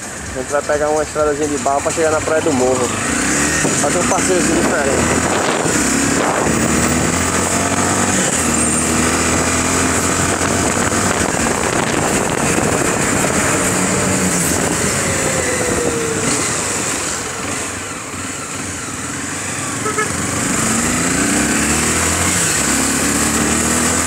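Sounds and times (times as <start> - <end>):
road and wind noise: 0.0 - 24.0
small motorcycle engine running: 0.5 - 24.0.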